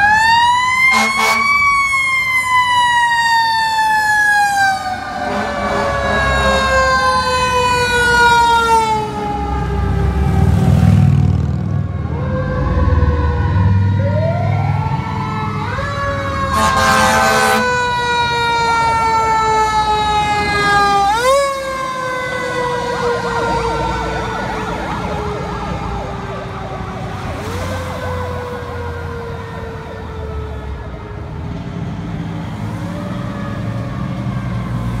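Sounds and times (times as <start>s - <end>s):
fire truck sirens: 0.0s - 35.0s
truck engines rumbling: 0.0s - 35.0s.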